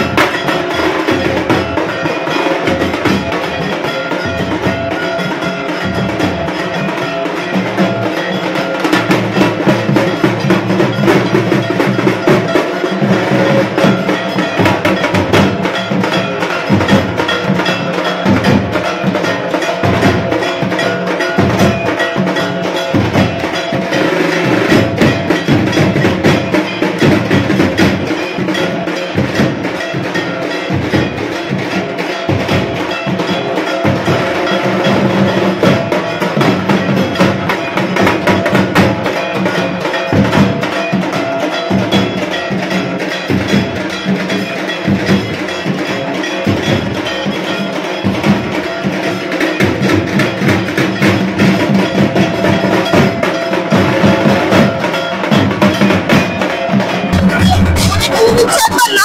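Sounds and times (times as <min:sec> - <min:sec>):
barrel drums beaten fast: 0:00.0 - 0:59.0.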